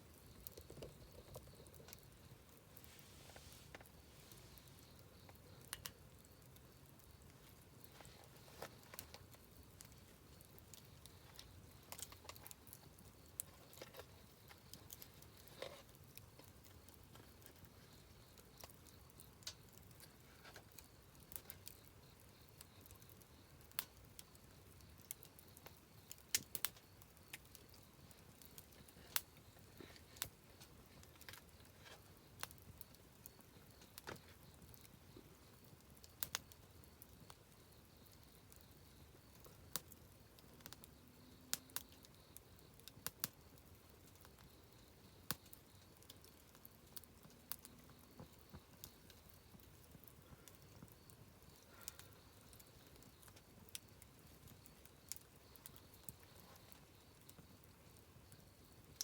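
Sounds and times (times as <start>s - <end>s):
campfire crackling: 0.0s - 59.0s
low hiss: 0.0s - 59.0s.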